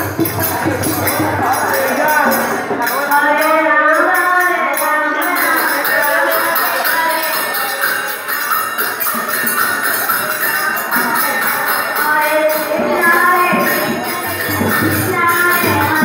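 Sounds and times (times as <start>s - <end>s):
melody with jingling percussion: 0.0s - 16.0s.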